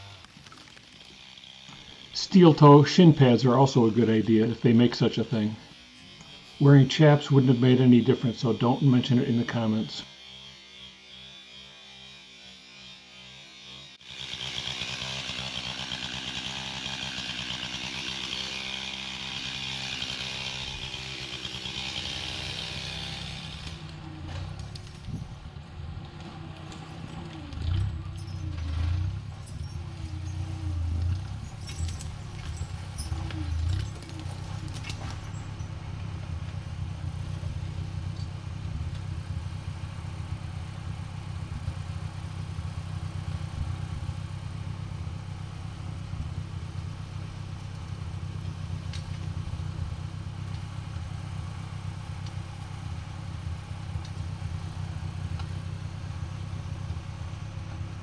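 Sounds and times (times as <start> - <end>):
engine revving and running: 0.0 - 58.0.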